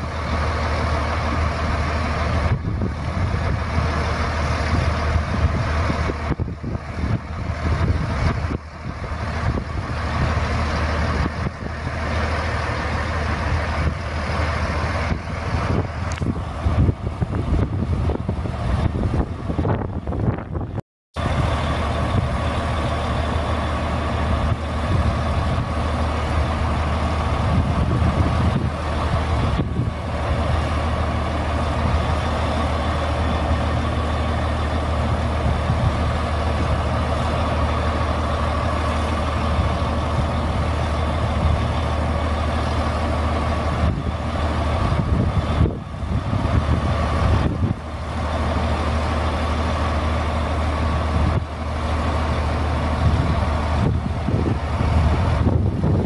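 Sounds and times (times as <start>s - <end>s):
diesel engine running: 0.0s - 56.0s
hydraulic whine: 0.0s - 56.0s.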